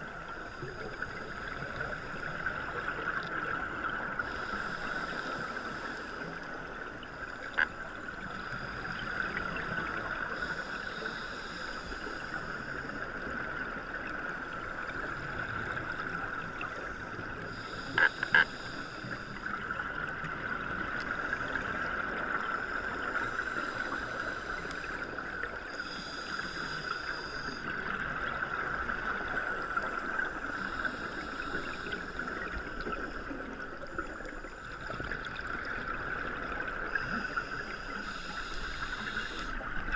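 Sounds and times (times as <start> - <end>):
underwater hiss: 0.0 - 39.9.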